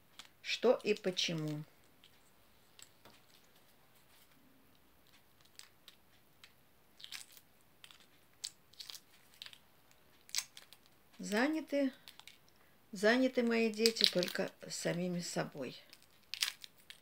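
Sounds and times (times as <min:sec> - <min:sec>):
eggshell crackling: 0:00.0 - 0:03.7, 0:04.6 - 0:17.0.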